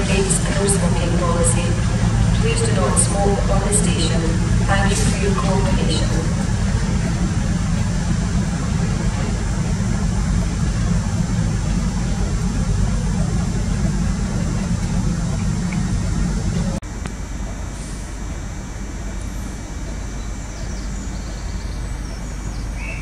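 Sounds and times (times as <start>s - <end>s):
station background: 0.0s - 23.0s
train diesel engines rumbling: 0.0s - 23.0s.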